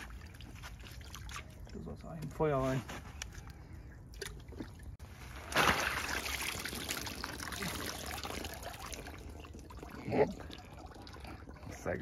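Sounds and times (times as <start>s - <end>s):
water pouring and splashing: 0.0s - 1.9s, 4.2s - 12.0s.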